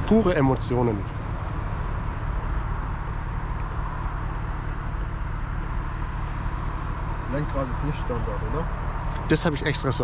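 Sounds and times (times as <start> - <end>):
car engine running steadily: 0.0 - 10.0
tyre and road noise: 0.0 - 10.0.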